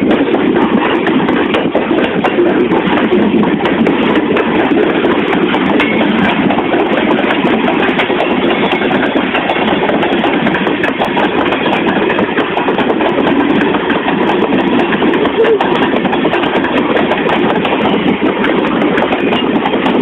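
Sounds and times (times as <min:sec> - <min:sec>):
freight train rolling past: 0:00.0 - 0:20.0
steel wheels clattering on rails: 0:00.0 - 0:20.0.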